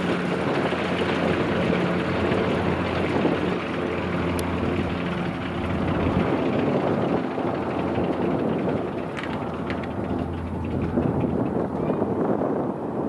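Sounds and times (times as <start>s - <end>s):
radial aircraft engine running: 0.0s - 13.0s.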